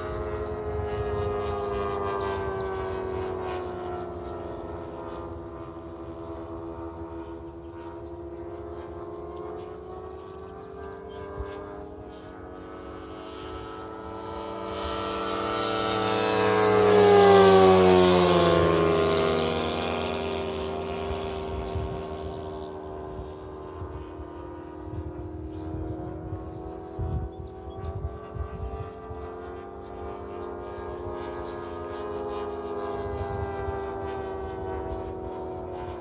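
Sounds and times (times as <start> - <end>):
model plane engine and propeller: 0.0 - 36.0.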